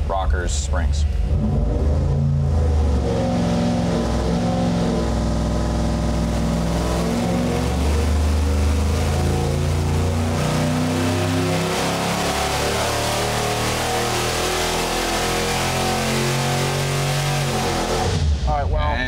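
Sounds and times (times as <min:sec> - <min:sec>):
engine running on a dynamometer: 0:01.2 - 0:18.5.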